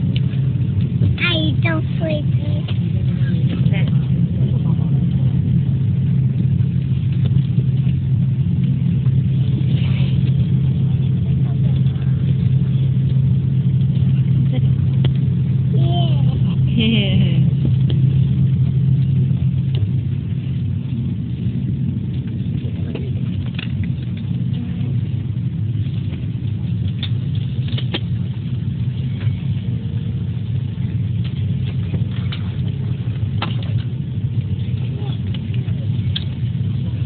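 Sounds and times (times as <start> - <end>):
vehicle engine drone: 0.0 - 37.0.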